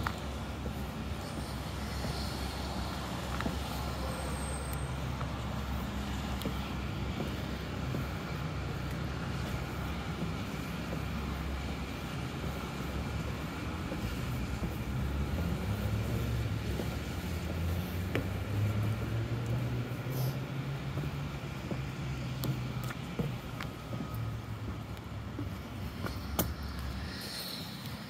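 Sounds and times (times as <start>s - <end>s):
heavy engine hum: 0.0s - 28.0s
traffic rumble: 0.0s - 28.0s.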